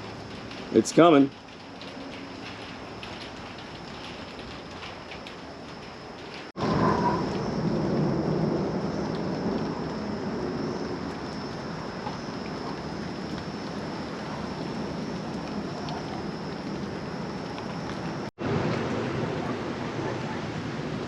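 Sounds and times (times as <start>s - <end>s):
heavy rain falling: 0.0s - 21.0s
low thunder rumble: 0.0s - 21.0s.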